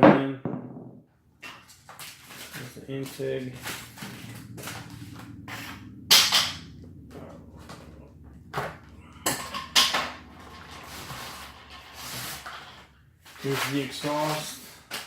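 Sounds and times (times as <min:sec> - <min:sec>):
low steady hum: 0:01.5 - 0:15.0.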